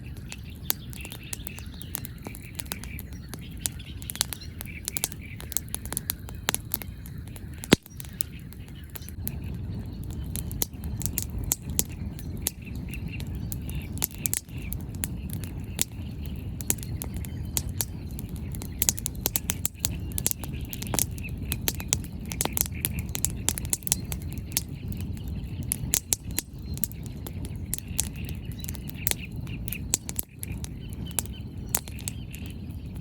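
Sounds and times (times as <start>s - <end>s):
birds chirping: 0.0s - 33.0s
bonfire crackling and popping: 0.0s - 33.0s
low rumble of fire: 0.0s - 33.0s.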